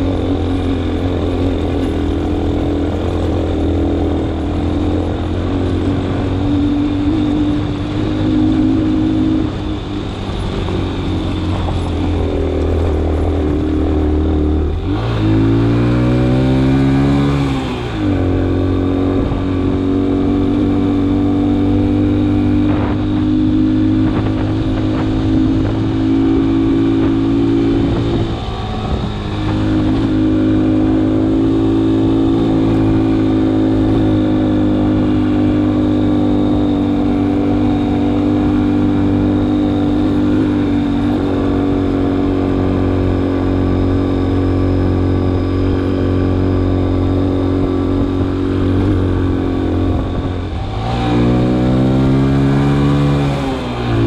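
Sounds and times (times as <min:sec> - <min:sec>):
vehicle engine running under load: 0:00.0 - 0:54.0.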